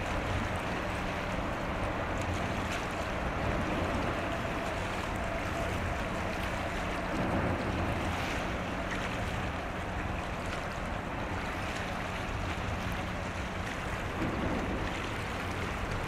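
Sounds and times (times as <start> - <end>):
sea: 0.0 - 16.0
ship engine drone: 0.0 - 16.0
wind: 0.0 - 16.0.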